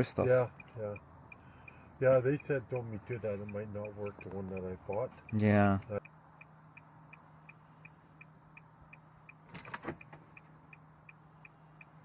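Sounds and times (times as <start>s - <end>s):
faint electronic ticking: 0.0s - 12.0s.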